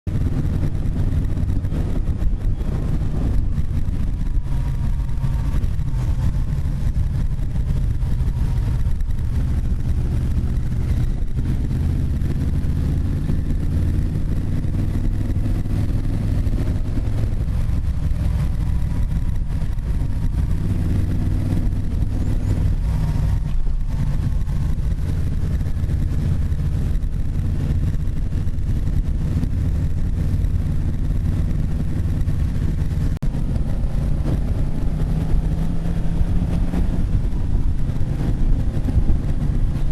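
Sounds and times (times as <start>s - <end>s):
motorcycle engine: 0.0s - 39.9s
wind buffeting microphone: 0.1s - 39.9s.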